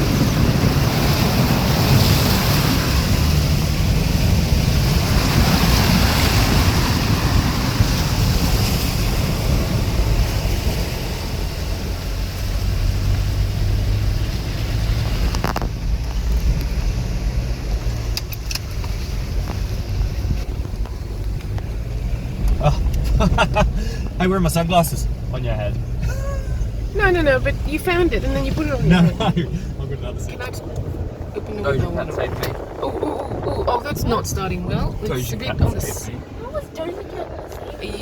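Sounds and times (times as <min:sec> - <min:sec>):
wind buffeting microphone: 0:00.0 - 0:24.2, 0:25.1 - 0:38.0
vehicle engine hum: 0:00.0 - 0:38.0.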